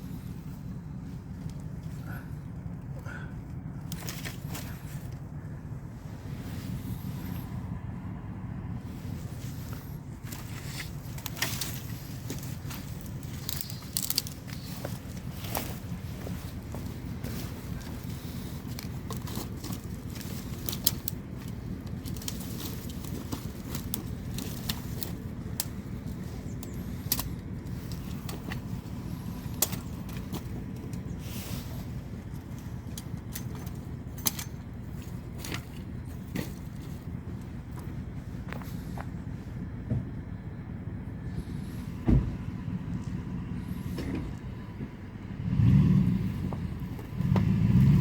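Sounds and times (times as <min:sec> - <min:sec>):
car engine rumbling: 0:00.0 - 0:48.0.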